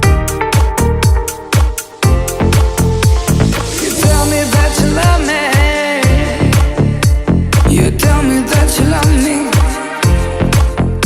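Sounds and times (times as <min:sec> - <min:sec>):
deep kick drums: 0:00.0 - 0:09.3
dance music: 0:00.0 - 0:11.0.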